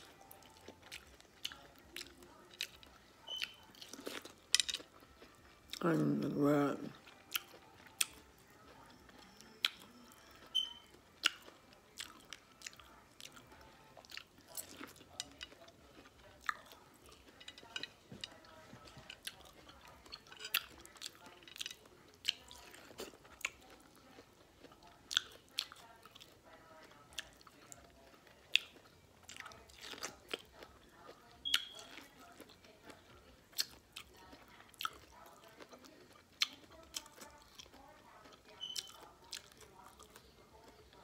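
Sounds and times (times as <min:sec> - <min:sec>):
person chewing corn on the cob: 0:00.0 - 0:06.1, 0:06.8 - 0:41.0.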